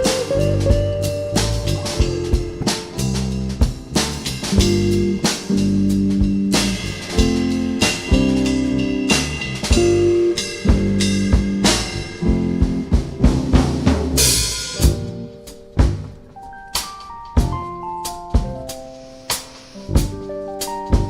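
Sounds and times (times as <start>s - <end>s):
drum kit hits: 0.0s - 21.0s
live band playing: 0.0s - 21.0s.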